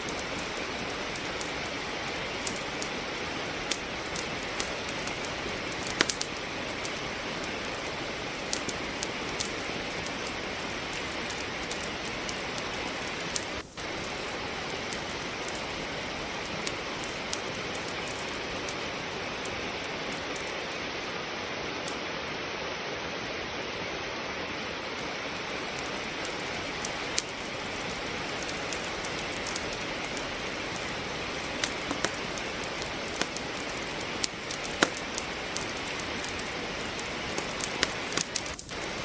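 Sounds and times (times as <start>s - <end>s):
steady rain: 0.0s - 39.0s
wood crackling in a fireplace: 0.0s - 39.0s.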